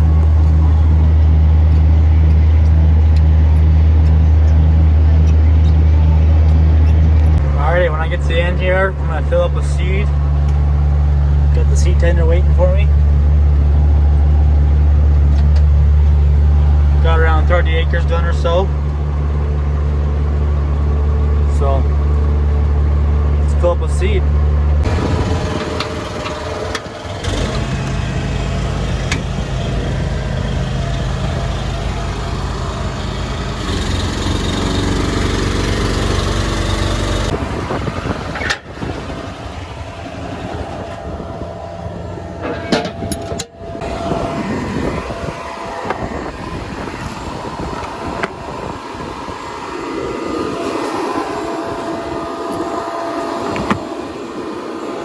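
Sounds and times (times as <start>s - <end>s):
tractor engine humming: 0.0s - 55.0s.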